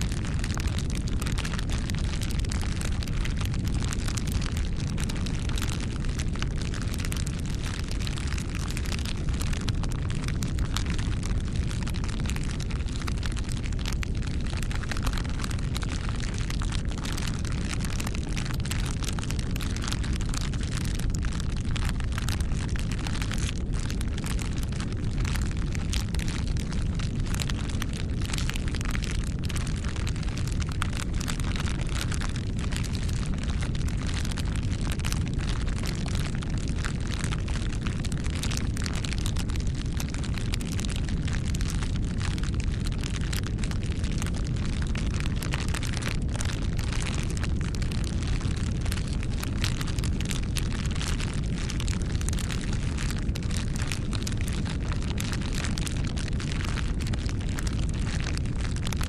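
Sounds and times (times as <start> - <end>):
wood fire crackling: 0.0 - 55.4, 56.1 - 59.0.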